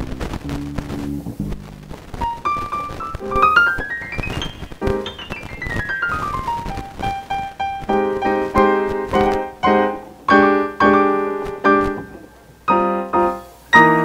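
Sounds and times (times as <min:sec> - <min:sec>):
electric keyboard playing: 0:02.2 - 0:14.0.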